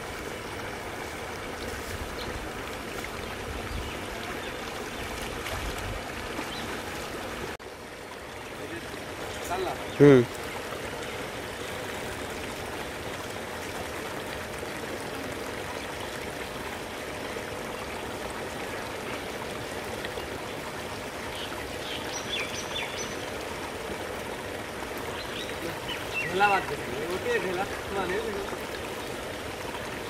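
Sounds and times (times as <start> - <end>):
water trickling into pond: 0.0 - 30.0.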